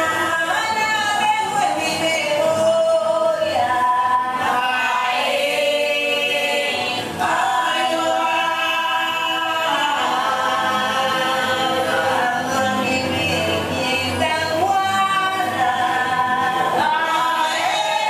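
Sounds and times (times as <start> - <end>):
voices singing unaccompanied chant: 0.0 - 18.0.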